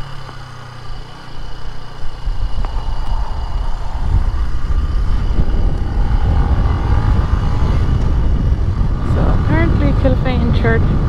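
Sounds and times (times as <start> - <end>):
motorcycle engine running: 0.0 - 11.0
wind rumble on microphone: 0.0 - 11.0.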